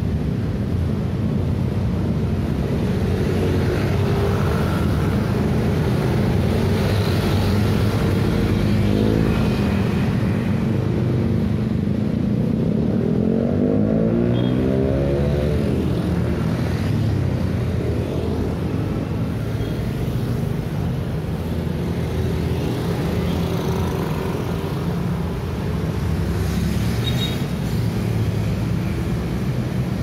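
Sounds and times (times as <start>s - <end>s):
scooters and cars passing: 0.0s - 30.0s.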